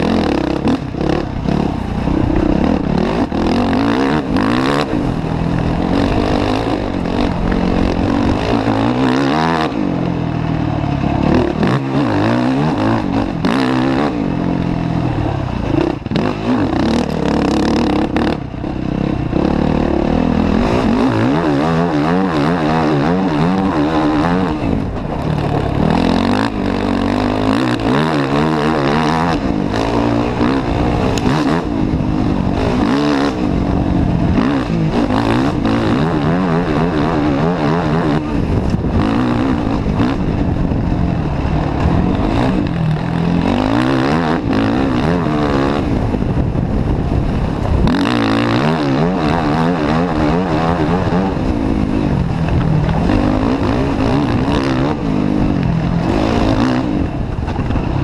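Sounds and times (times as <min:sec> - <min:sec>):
quad engine revving: 0:00.0 - 0:58.0
track noise: 0:00.0 - 0:58.0
wind: 0:00.0 - 0:58.0.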